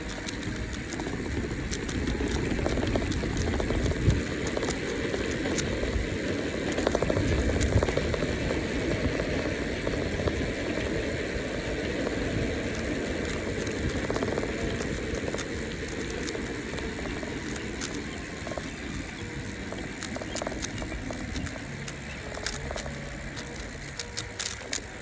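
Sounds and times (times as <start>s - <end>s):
bicycle tyres rumbling on road: 0.0s - 25.0s
wind buffeting microphone: 0.0s - 25.0s.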